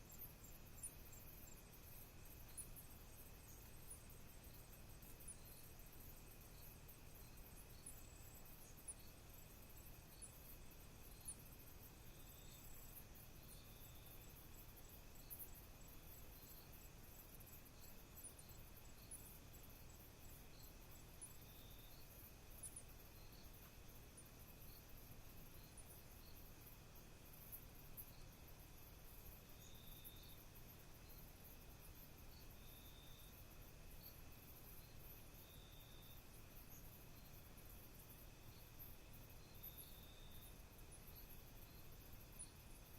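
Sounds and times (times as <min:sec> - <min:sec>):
fast ticking insect trill: 0:00.0 - 0:42.9
short cricket chirps: 0:00.0 - 0:42.9
steady high insect trill: 0:00.0 - 0:42.9.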